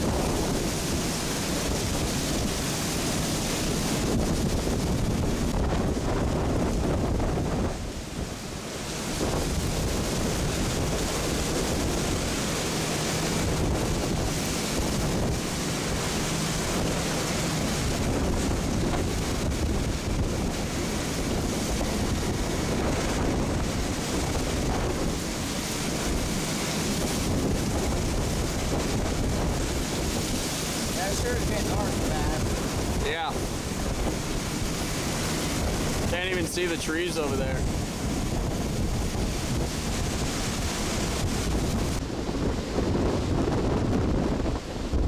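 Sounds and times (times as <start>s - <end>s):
strong wind on microphone: 0.0s - 45.0s
wind-driven rain: 0.0s - 45.0s.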